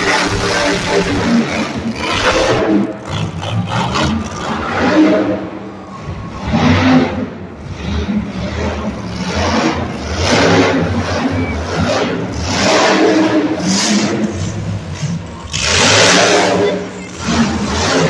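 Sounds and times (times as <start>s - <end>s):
monster truck engines revving: 0.0s - 18.0s.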